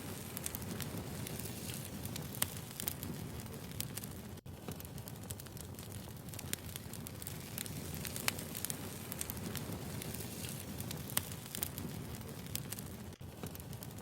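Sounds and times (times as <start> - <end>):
rumble of flames: 0.0 - 14.0
wood fire crackling: 0.0 - 14.0.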